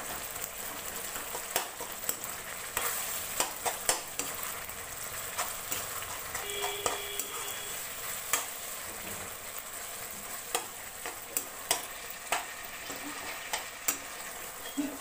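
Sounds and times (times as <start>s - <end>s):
curry sizzling in a metal pan: 0.0s - 15.0s
metal spoon scraping a pan: 0.1s - 15.0s.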